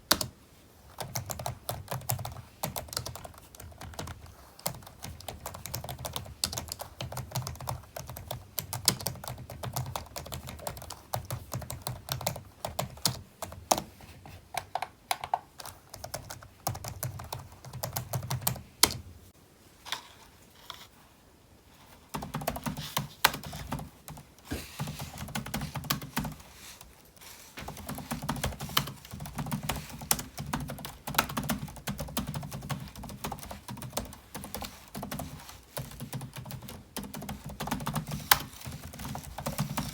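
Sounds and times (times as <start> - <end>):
computer keyboard typing: 0.1 - 0.3, 1.0 - 13.9, 14.6 - 19.0, 22.1 - 26.5, 27.6 - 39.9.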